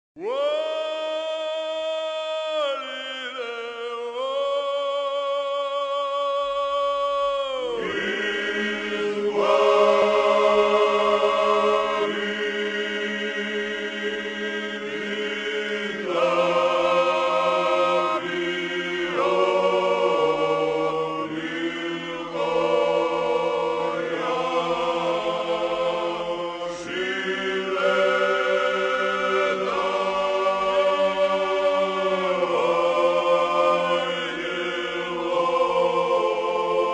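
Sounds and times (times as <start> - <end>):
a cappella choir singing: 0.2 - 36.9
low vocal drone: 0.2 - 36.9.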